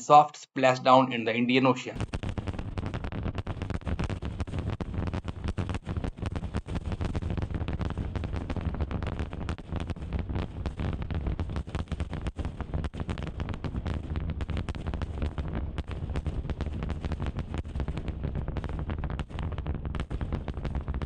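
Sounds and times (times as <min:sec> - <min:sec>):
rocket engines rumbling and crackling: 0:00.6 - 0:21.0.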